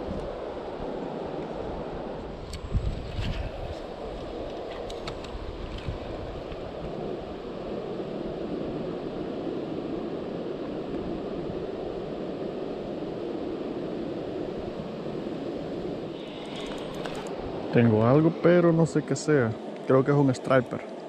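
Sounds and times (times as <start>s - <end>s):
wind buffeting microphone: 0.0s - 20.5s.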